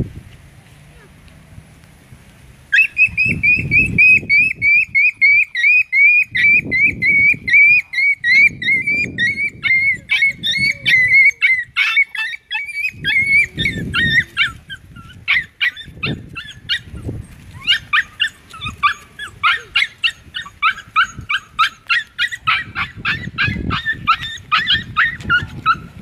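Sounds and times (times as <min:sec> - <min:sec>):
dog yelping and whining: 0:02.7 - 0:26.0.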